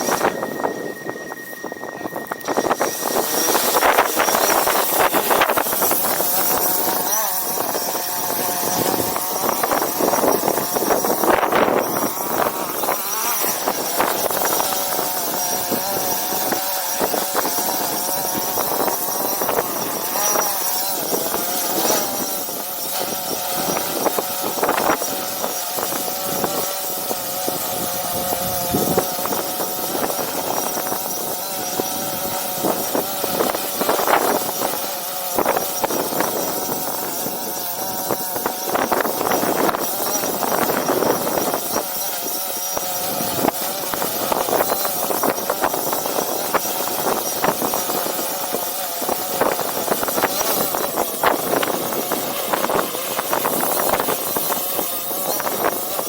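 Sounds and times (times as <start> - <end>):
drone propellers humming: 0.0 - 56.0
wind on microphone: 0.0 - 56.0.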